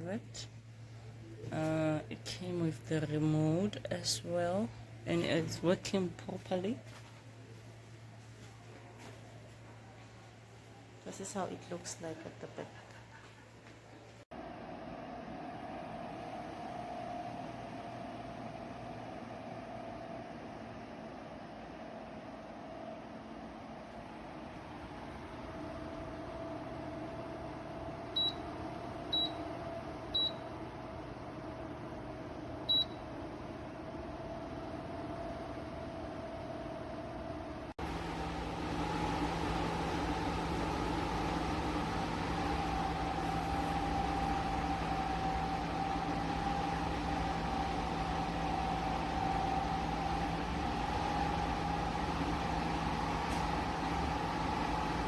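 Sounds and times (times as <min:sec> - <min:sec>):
tower fan humming: 0:00.0 - 0:55.0.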